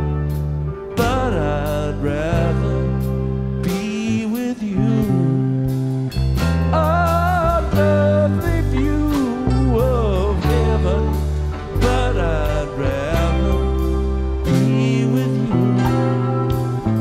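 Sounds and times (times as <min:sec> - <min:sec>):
rock song: 0:00.0 - 0:17.0
person singing wavering melody: 0:01.0 - 0:05.8, 0:06.7 - 0:17.0.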